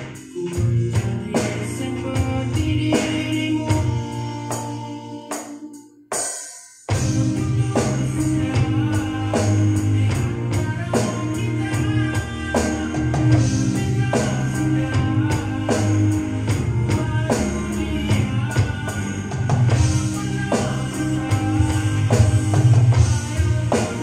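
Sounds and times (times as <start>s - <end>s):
electronic drum kit: 0.0s - 24.0s
pop-rock song with singing: 0.0s - 24.0s.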